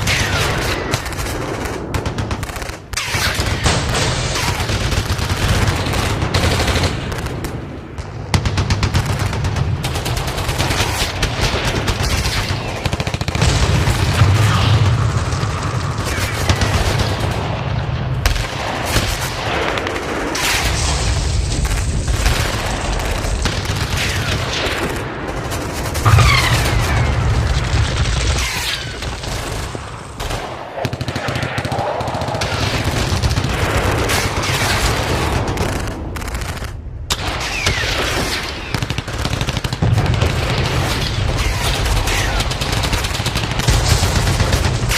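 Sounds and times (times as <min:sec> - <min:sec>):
automatic gunfire and rifle shots: 0:00.0 - 0:44.9.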